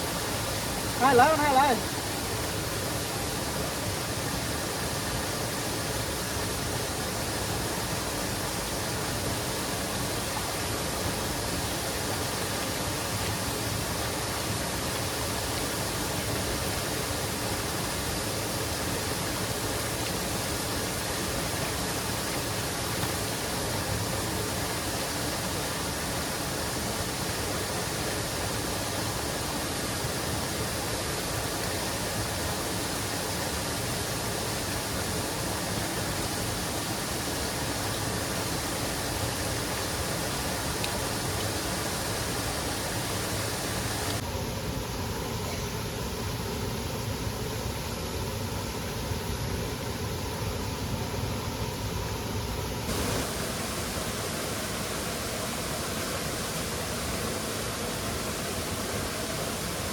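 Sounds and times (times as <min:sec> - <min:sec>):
waterfall rushing: 0:00.0 - 0:44.2, 0:52.8 - 0:59.9.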